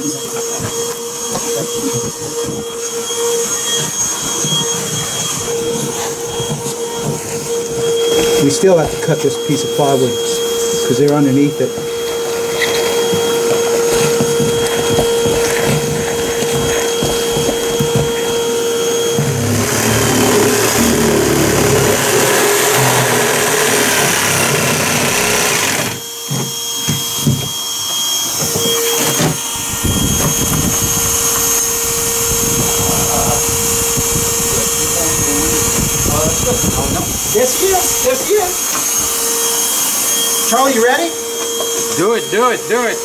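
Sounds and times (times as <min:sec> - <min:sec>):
power saw cutting plywood: 0:00.0 - 0:43.0
vacuum whining: 0:00.0 - 0:43.0.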